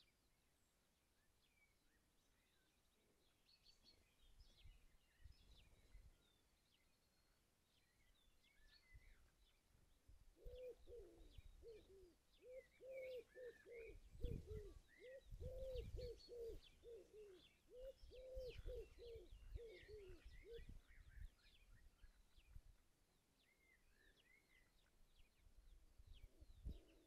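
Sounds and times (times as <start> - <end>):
small birds chirping faintly: 0.0 - 27.0.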